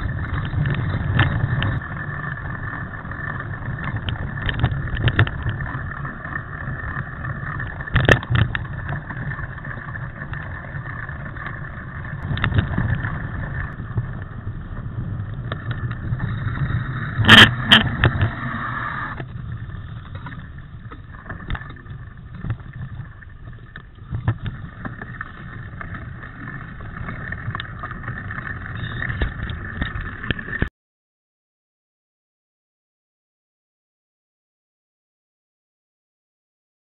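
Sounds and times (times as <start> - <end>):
bike rattling on rough trail: 0.0 - 30.7
wind on microphone: 0.0 - 30.7.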